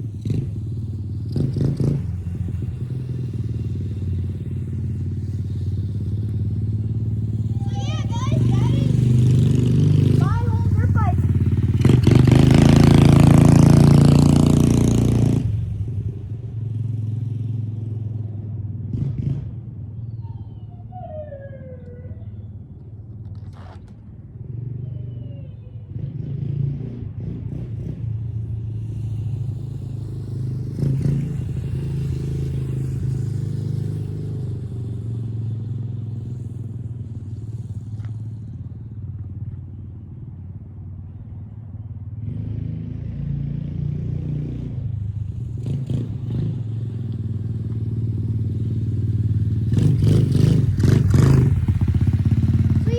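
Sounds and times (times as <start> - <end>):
motorcycle engine revving and idling: 0.0 - 52.9.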